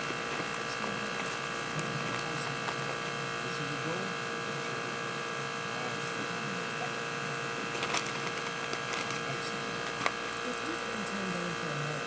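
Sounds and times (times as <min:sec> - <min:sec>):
electrical buzzing hum: 0:00.0 - 0:12.0.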